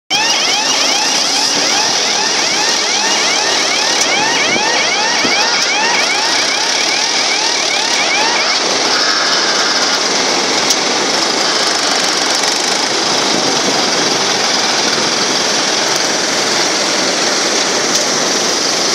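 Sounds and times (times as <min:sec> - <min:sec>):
tractor engine running: 0:00.1 - 0:18.9.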